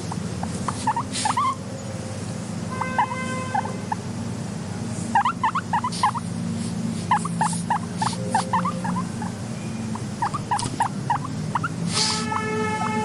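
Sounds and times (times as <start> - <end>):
guinea pig squeaking: 0.0 - 1.8, 2.7 - 4.1, 5.0 - 13.0
steady low hum: 0.0 - 13.0.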